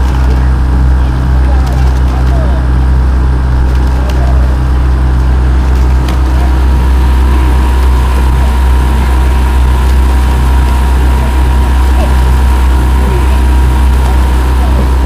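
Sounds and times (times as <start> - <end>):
motorboat engine humming: 0.0 - 15.0
water noise: 0.0 - 15.0.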